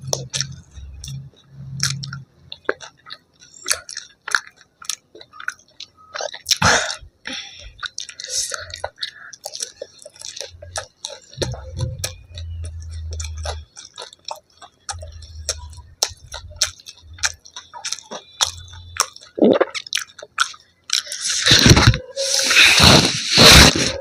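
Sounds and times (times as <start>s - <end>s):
crunching bite: 0.0s - 7.0s, 7.8s - 24.0s
person chewing food: 0.0s - 24.0s
wet mouth clicks: 0.0s - 24.0s.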